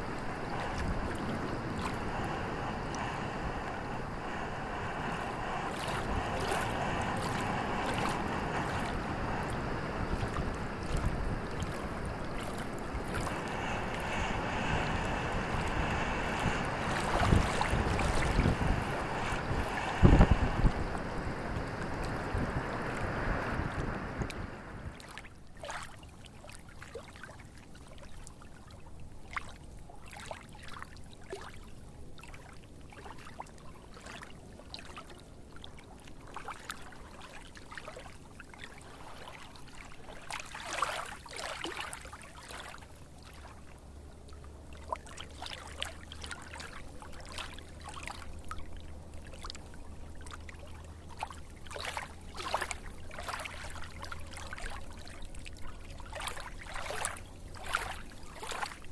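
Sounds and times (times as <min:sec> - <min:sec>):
low steady hum: 0:00.0 - 0:58.9
water trickling and splashing: 0:00.0 - 0:58.9.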